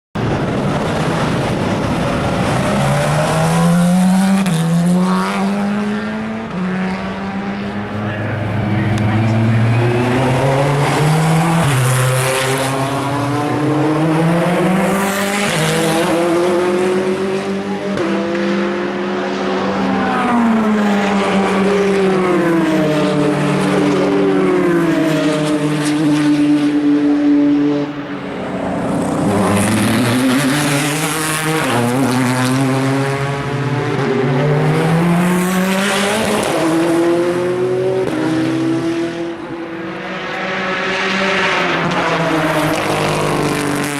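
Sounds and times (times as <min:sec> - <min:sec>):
race cars passing at speed: 0:00.2 - 0:43.9.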